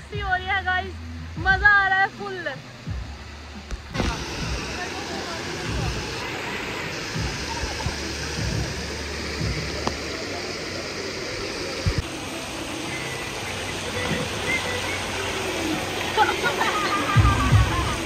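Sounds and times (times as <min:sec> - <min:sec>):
falling water splashing: 0:01.8 - 0:18.0.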